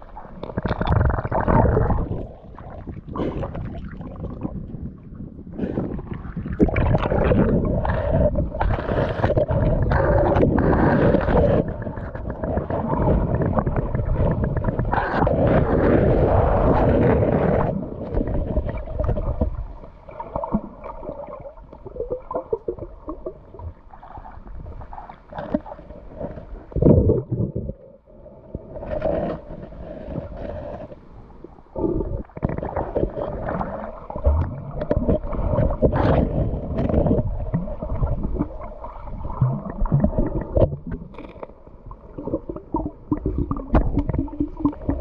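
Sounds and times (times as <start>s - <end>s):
muffled underwater water sloshing: 0.0s - 45.0s.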